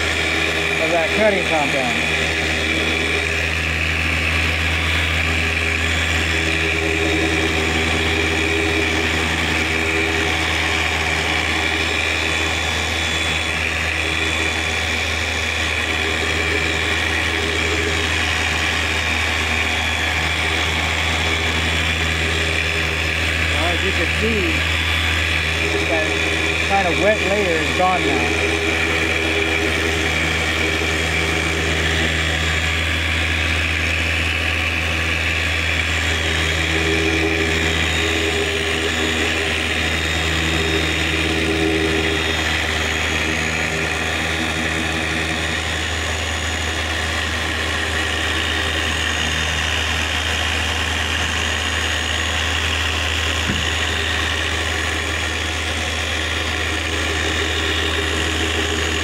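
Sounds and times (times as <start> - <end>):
electric polisher humming: 0.0 - 59.0.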